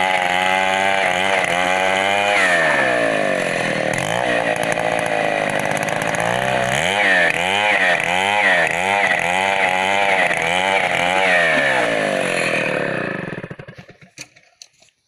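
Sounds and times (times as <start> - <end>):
chainsaw revving: 0.0 - 14.5.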